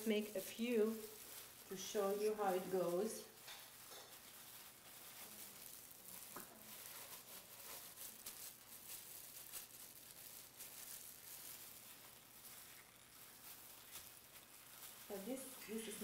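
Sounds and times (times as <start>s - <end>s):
plastic gloves rustling: 0.0s - 16.0s.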